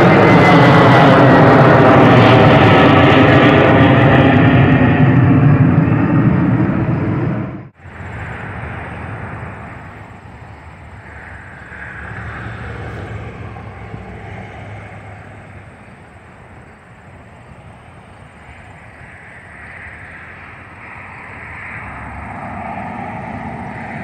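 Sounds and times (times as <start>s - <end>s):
distant engines roaring: 0.0s - 24.0s.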